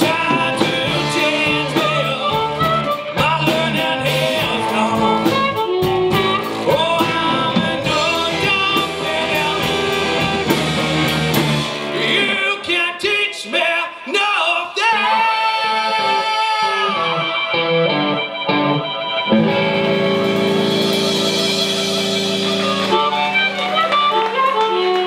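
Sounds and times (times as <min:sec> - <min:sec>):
guitar note bending: 0:00.0 - 0:12.4, 0:16.0 - 0:25.0
blues band playing live: 0:00.0 - 0:13.2, 0:15.0 - 0:25.0.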